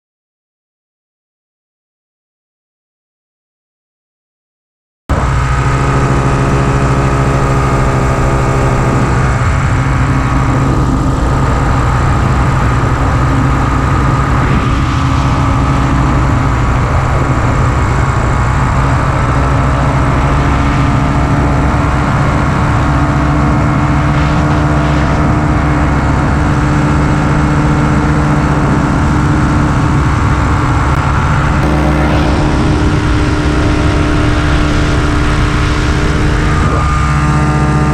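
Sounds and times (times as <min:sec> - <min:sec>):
paramotor engine droning: 0:05.1 - 0:37.9.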